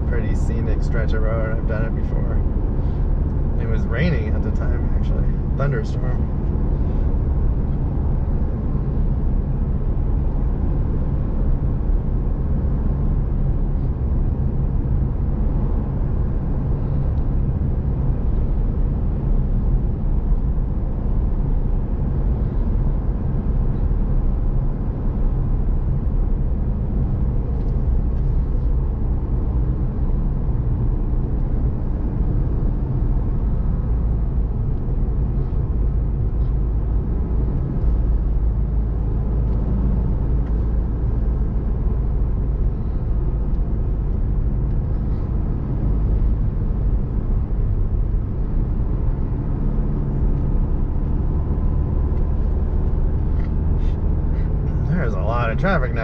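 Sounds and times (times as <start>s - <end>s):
vehicle road noise from cabin: 0.0s - 56.0s.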